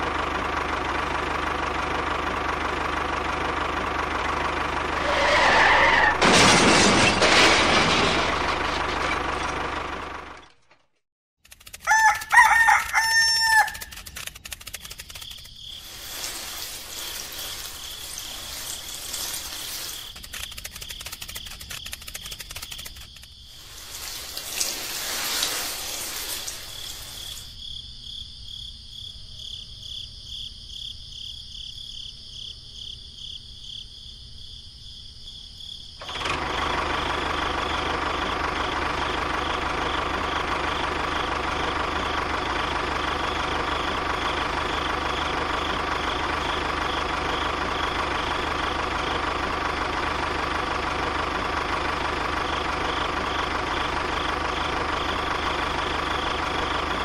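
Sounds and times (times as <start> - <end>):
small engine idling: 0.0 - 5.4, 8.2 - 27.6, 36.0 - 57.0.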